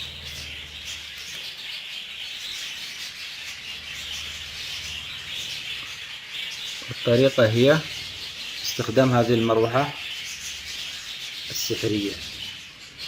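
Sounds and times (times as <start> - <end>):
budgerigars chattering and chirping: 0.0 - 13.0.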